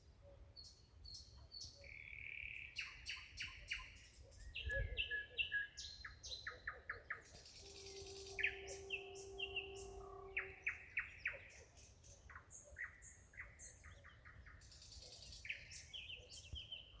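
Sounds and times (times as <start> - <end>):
nightingale singing: 0.6 - 17.0.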